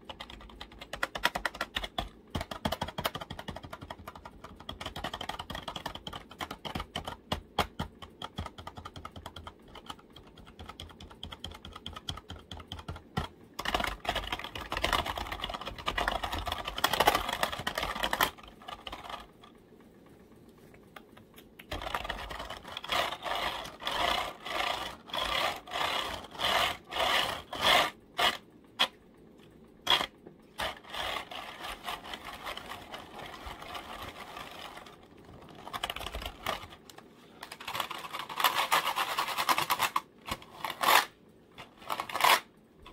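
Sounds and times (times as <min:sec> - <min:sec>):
typing on keyboard: 0:00.0 - 0:19.5, 0:20.8 - 0:28.9, 0:29.9 - 0:40.1.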